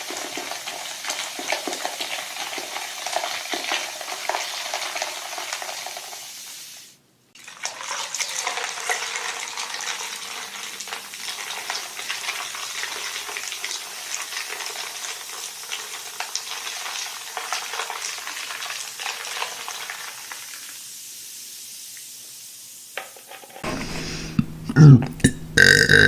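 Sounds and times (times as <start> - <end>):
carbonated drink fizzing: 0.0 - 24.1.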